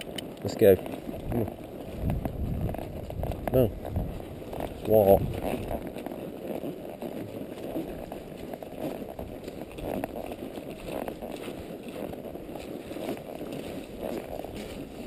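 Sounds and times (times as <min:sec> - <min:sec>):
horse hooves walking on dirt: 0:00.0 - 0:15.0.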